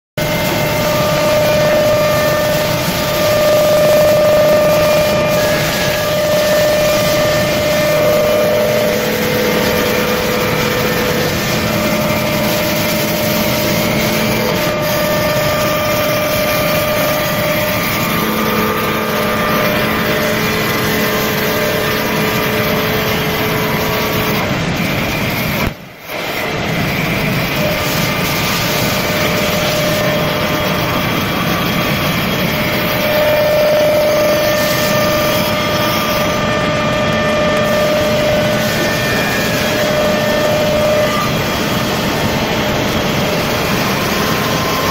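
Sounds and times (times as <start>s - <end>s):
lathe motors whining: 0.2s - 44.9s
wood being cut and sanded: 0.2s - 44.9s.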